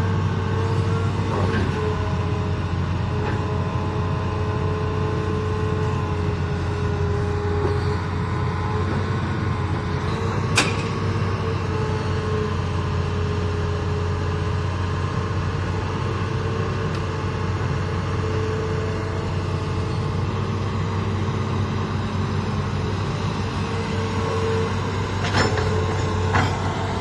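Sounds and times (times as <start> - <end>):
excavator diesel engine droning: 0.0 - 27.0.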